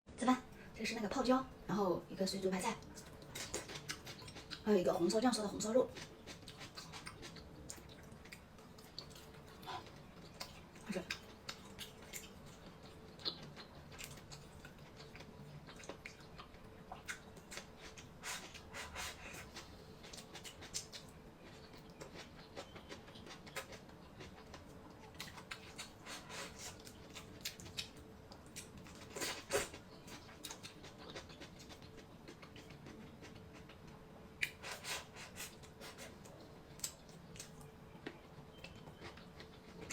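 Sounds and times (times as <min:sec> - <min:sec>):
faint steady hum: 0:00.1 - 0:39.9.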